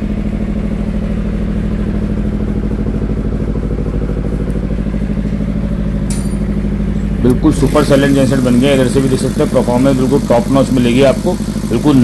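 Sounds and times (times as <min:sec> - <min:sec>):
diesel generator engine running: 0:00.0 - 0:12.0.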